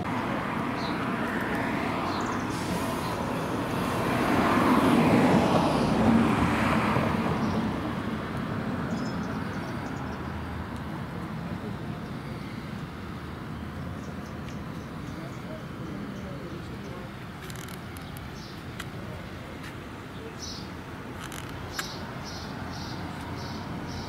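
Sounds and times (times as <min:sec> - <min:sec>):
vehicle passing: 0:00.0 - 0:19.6.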